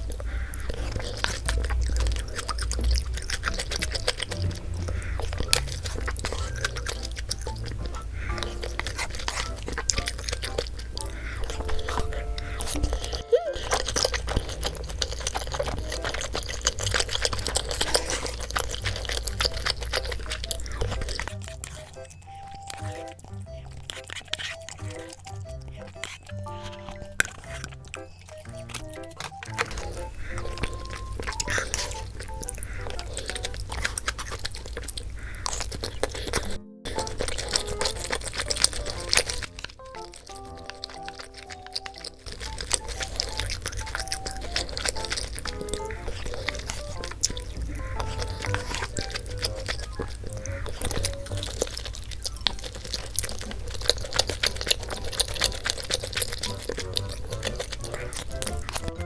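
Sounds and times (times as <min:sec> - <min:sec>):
food being chewed and slurped: 0:00.0 - 0:59.0
light background music: 0:00.0 - 0:59.0.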